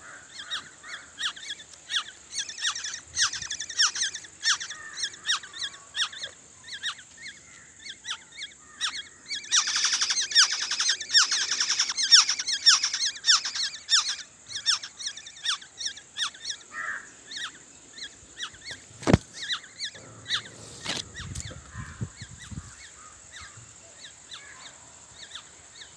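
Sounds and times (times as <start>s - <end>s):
nestling birds cheeping: 0.0s - 25.9s.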